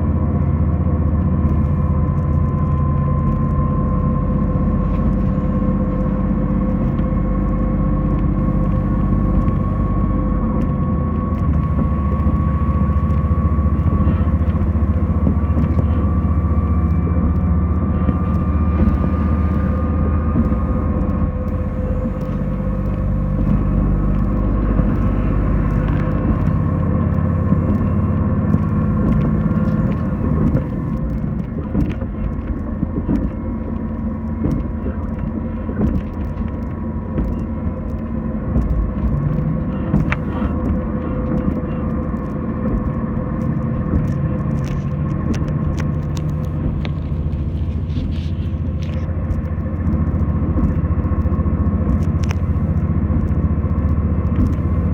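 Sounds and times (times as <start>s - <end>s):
train whine: 0.0s - 49.4s
train rumble on rails: 0.0s - 54.9s.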